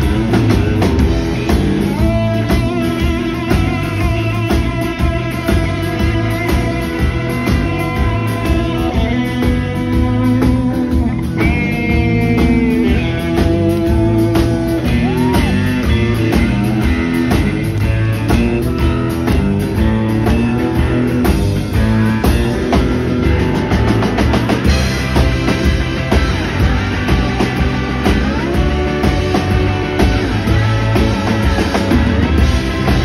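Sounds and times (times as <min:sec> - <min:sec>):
bent lead guitar notes: 0:00.0 - 0:33.0
rock band playing boogie: 0:00.0 - 0:33.0.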